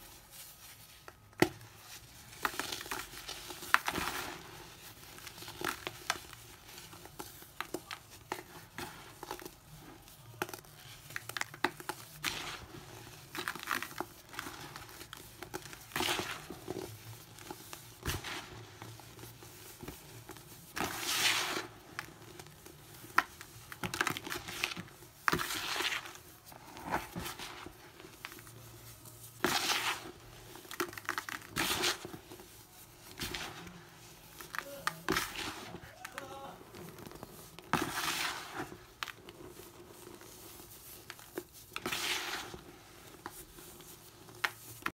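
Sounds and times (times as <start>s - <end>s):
hands crumbling hard baking soda: 0.3s - 44.9s.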